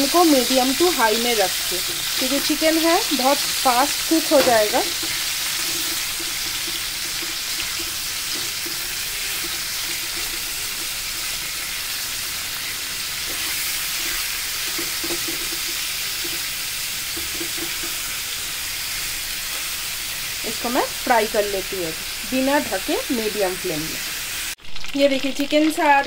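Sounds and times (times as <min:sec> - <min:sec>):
spatula turning food: 0:00.0 - 0:24.5
chicken sizzling in hot oil: 0:00.0 - 0:26.0.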